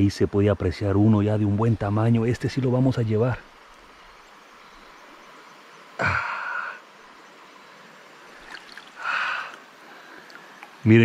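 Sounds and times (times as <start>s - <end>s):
creek running over rocks: 0.0s - 11.0s
noisy water rushes: 0.0s - 11.0s.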